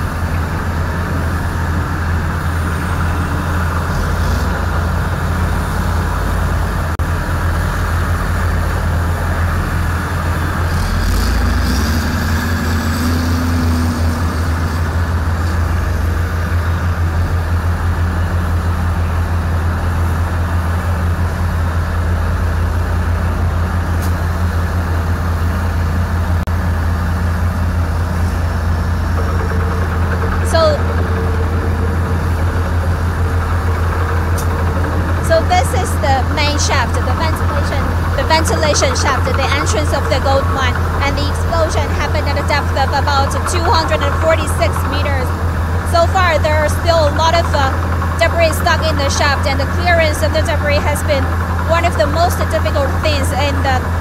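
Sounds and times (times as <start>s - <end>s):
diesel machinery droning: 0.0s - 54.0s.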